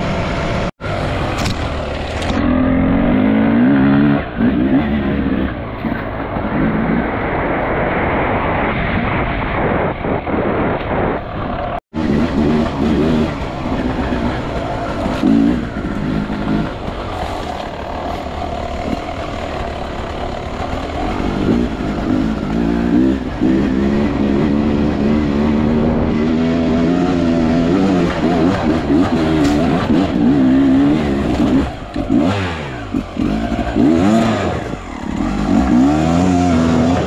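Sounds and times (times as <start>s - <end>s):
motorcycle engine revving: 0.0s - 7.6s, 8.5s - 37.0s.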